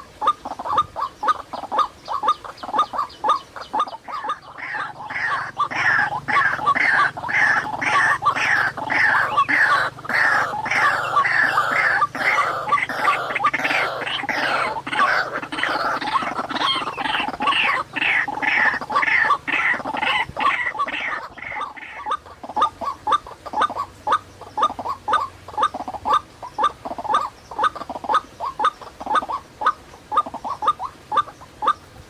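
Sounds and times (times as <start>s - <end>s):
bird harsh repeated calls: 0.0s - 31.9s.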